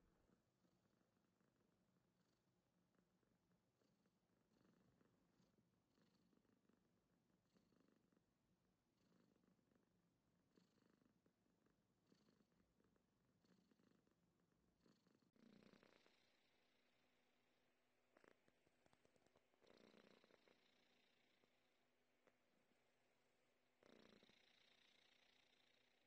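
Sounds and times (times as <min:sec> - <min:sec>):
cat purring faintly: 0:00.0 - 0:26.0.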